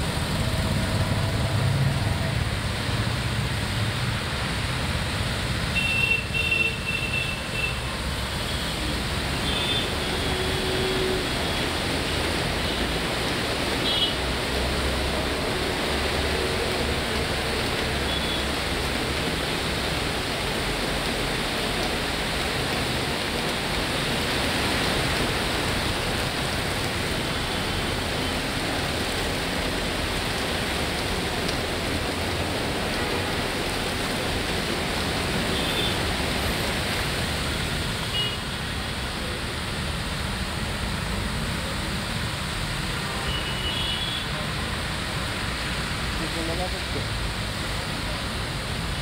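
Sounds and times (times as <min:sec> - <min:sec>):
heavy rain hissing: 0:00.0 - 0:49.0.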